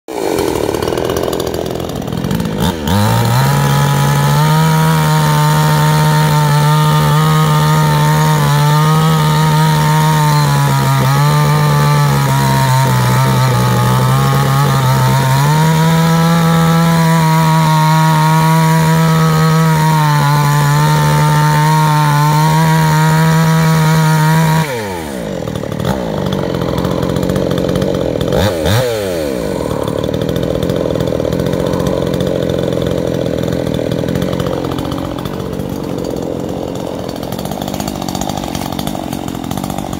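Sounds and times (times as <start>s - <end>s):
chainsaw idling and revving: 0.1s - 39.9s.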